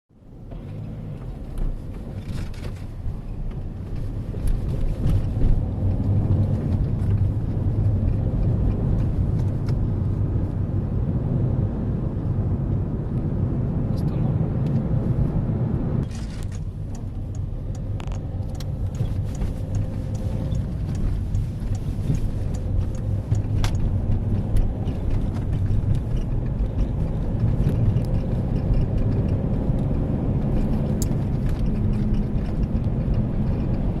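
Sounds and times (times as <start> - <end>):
road rumble in car cabin: 0.1 - 34.0.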